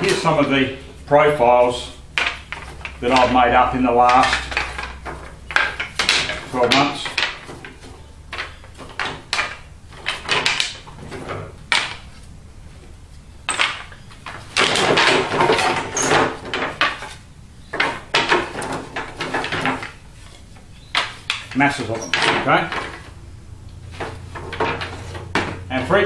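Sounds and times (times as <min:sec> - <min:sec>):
wooden boomerangs clacking: 0:00.0 - 0:26.0.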